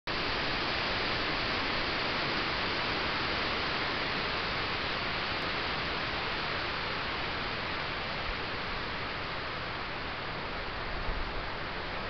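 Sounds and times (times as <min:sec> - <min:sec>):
microphone hiss: 0:00.1 - 0:12.0.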